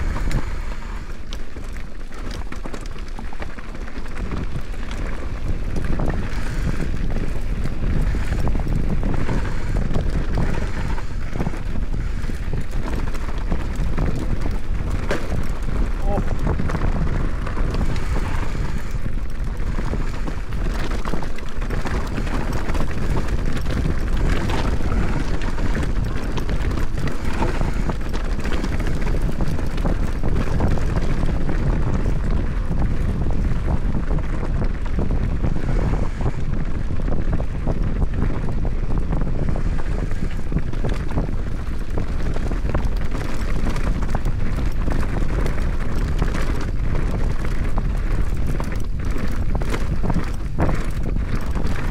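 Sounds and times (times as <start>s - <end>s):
mountain bike rattling over trail: 0.0s - 51.9s
wind buffeting microphone: 0.0s - 51.9s.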